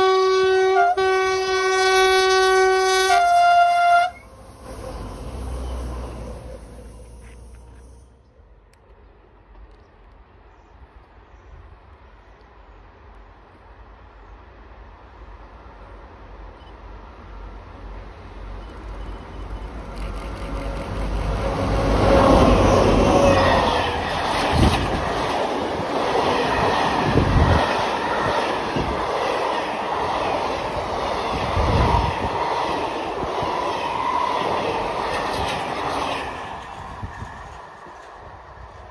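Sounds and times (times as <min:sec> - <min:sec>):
train wheels rumbling: 0:00.7 - 0:10.3, 0:13.1 - 0:38.9.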